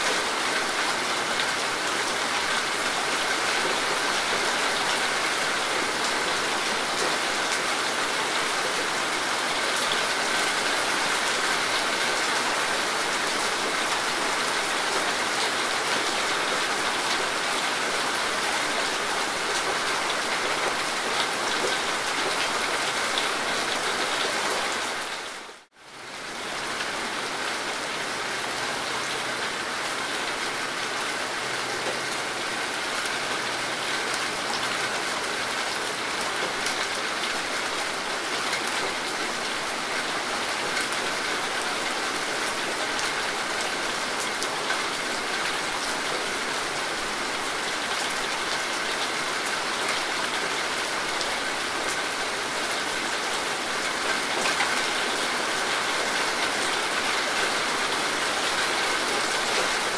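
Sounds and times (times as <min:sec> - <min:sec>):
rain falling on grass and leaves: 0:00.0 - 0:59.9.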